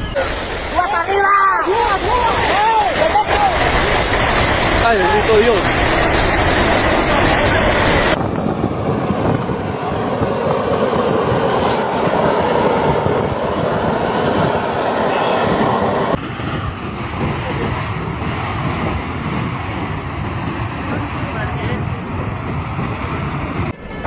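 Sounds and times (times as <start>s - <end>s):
rushing roar: 0.0s - 24.0s.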